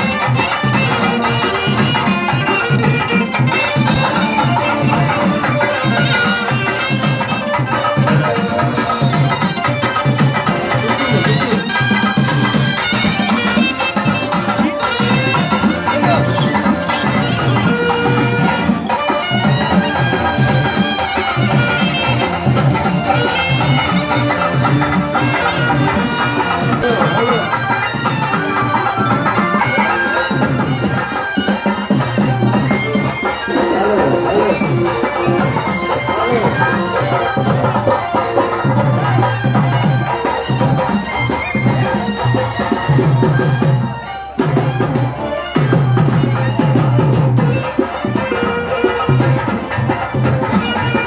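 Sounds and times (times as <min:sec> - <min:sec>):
folk music with reedy wind instrument: 0:00.0 - 0:51.0
rapid drumming: 0:00.0 - 0:51.0.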